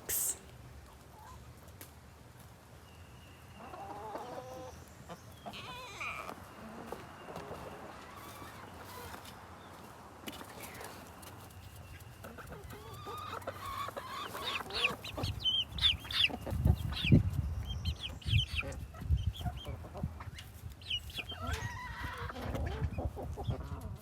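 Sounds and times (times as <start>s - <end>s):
chickens clucking: 3.4s - 24.0s.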